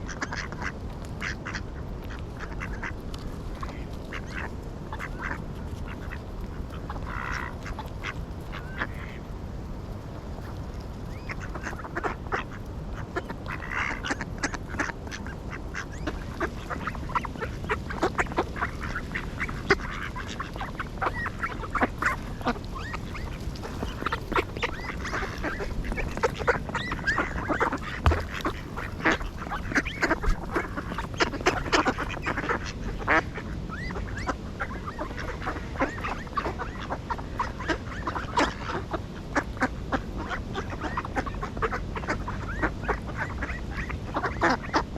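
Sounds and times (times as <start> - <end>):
ducks quacking: 3.6 - 9.3, 10.4 - 44.9.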